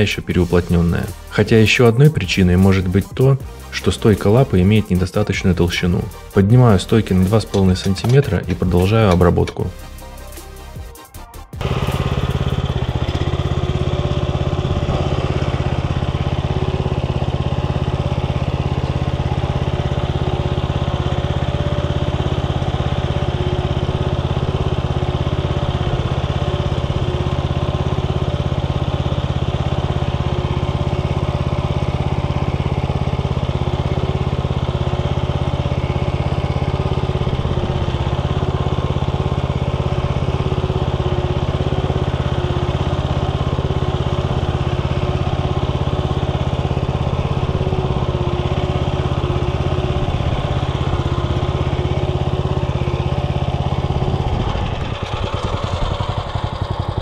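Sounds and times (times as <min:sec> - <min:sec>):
tractor engine running under load: 0:00.0 - 0:10.8, 0:11.6 - 0:57.0.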